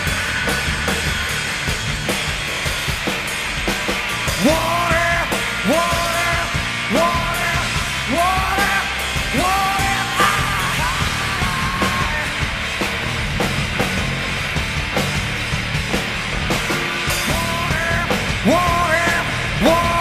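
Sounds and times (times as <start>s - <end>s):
rock band playing loudly: 0.0s - 20.0s.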